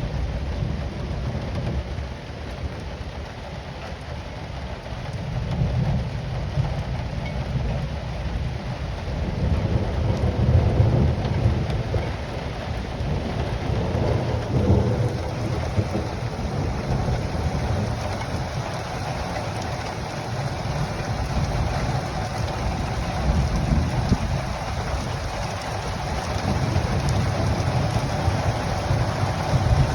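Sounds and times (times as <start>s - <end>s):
steady rain falling: 0.0s - 29.9s
low rolling thunder: 5.0s - 29.9s.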